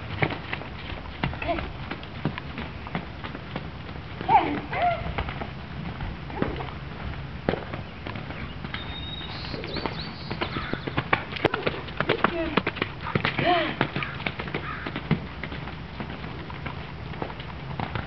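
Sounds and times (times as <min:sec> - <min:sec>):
hooves thudding on wet sand: 0:00.0 - 0:18.0.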